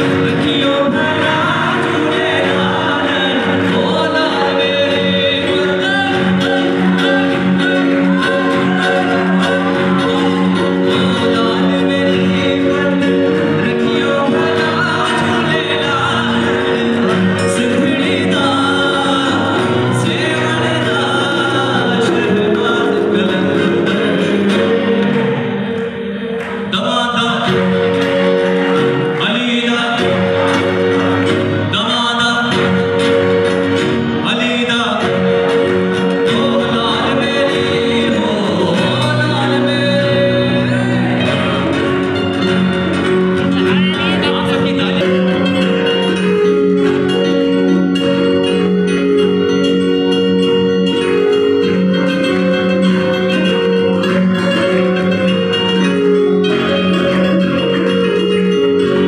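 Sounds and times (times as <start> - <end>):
man singing into microphone: 0.0 - 49.5
acoustic guitar: 0.0 - 59.0
keyboard: 0.0 - 59.0.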